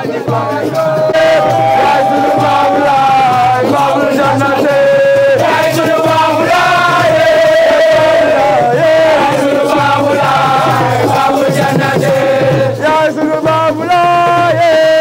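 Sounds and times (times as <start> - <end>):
group chanting a devotional song: 0.0 - 15.0.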